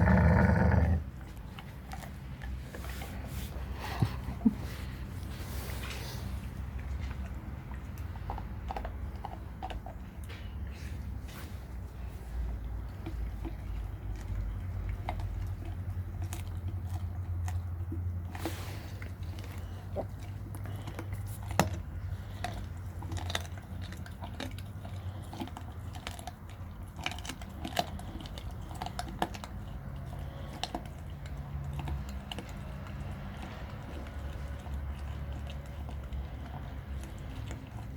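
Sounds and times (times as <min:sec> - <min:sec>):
dog crunching bone: 0:00.0 - 0:11.2, 0:12.5 - 0:37.9.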